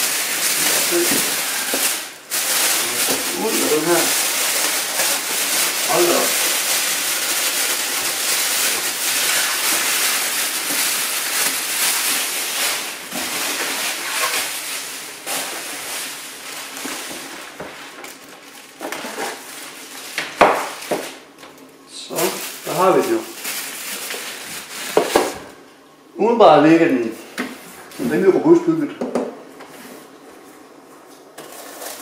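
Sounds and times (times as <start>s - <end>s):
plastic bag crinkling: 0.0s - 25.4s, 31.4s - 32.0s.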